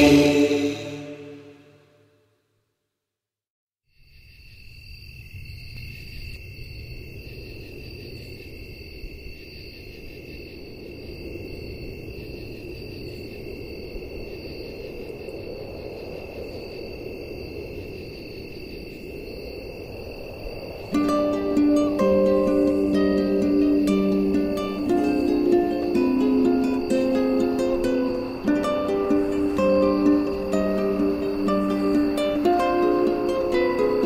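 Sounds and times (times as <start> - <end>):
high cricket-like chirring: 3.9 - 34.0.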